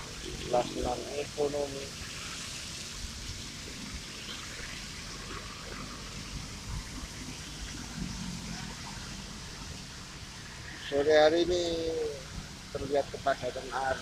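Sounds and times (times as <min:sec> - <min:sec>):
traffic: 0:00.0 - 0:14.0
tyres hissing on wet road: 0:00.0 - 0:14.0.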